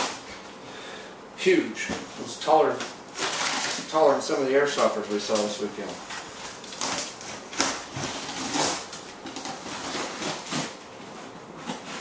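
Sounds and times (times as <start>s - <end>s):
cardboard rustling and scraping: 1.8s - 12.0s.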